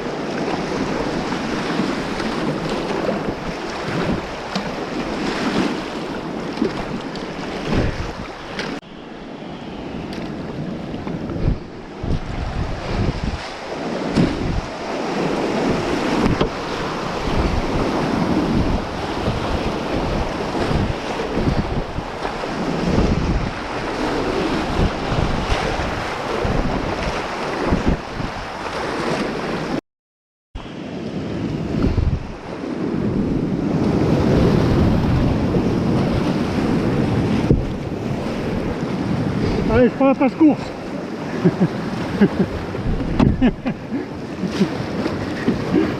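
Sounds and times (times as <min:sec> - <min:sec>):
wind buffeting microphone: 0:00.0 - 0:29.7, 0:30.6 - 0:45.9.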